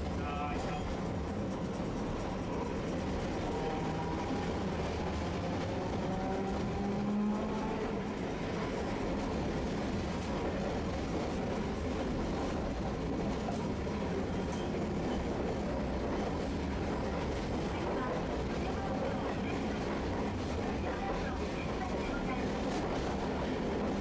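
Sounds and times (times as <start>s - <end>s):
streetcar wheels rumbling: 0.0s - 24.0s.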